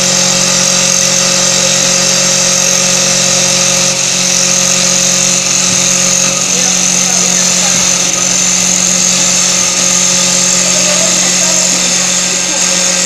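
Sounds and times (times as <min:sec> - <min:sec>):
wood lathe machine hum: 0:00.0 - 0:13.0.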